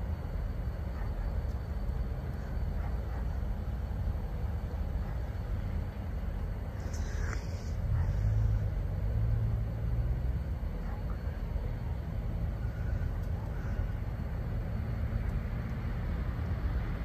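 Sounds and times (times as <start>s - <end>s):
low drone: 0.0s - 17.0s.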